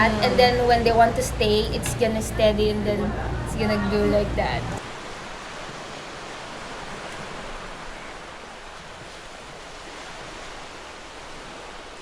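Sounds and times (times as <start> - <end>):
surf washing on beach: 0.0 - 12.0.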